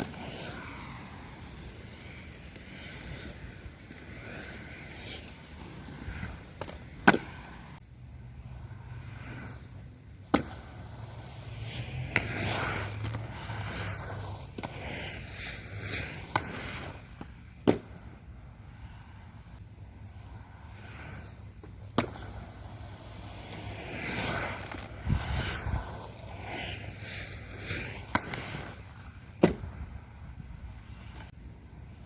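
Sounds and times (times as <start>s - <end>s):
skates clacking: 0.0s - 7.8s, 8.8s - 32.0s
inline skates rolling on pavement: 0.0s - 32.0s.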